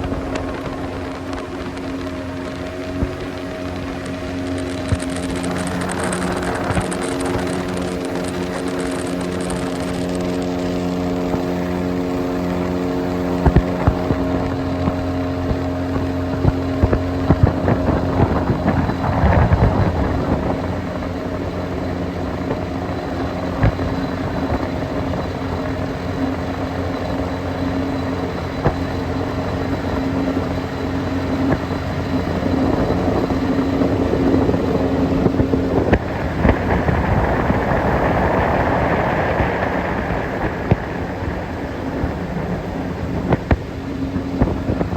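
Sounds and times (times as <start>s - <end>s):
boat motor running: 0.0s - 44.9s
rushing water: 0.0s - 44.9s
wind on microphone: 0.0s - 44.9s.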